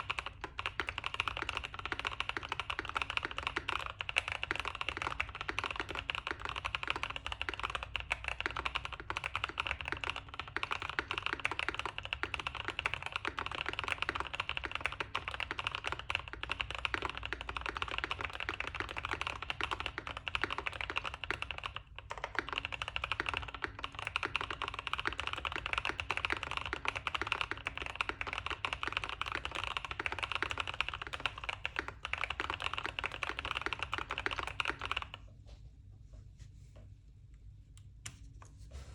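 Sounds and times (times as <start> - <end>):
fast mechanical keyboard typing: 0.0 - 35.2.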